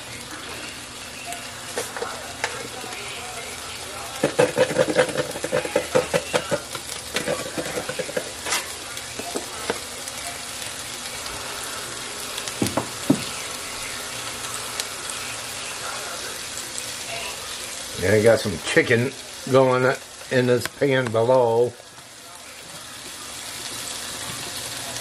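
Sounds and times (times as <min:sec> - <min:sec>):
chicken sizzling in frying pan: 0:00.0 - 0:25.0.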